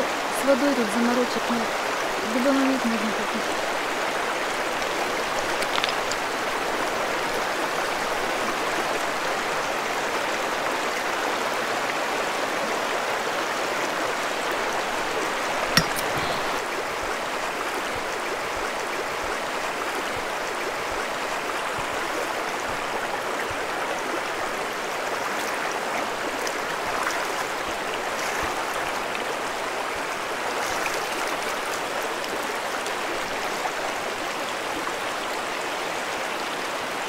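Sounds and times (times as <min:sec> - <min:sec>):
river rushing over stones: 0:00.0 - 0:37.0.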